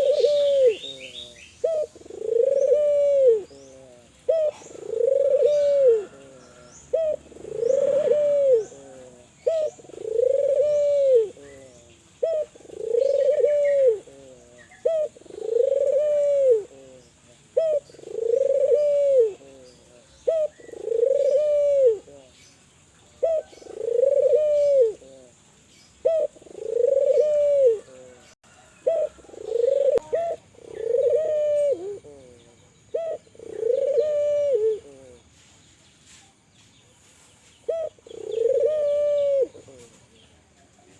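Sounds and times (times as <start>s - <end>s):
dove cooing: 0.0s - 22.4s, 23.0s - 35.3s, 37.7s - 40.1s.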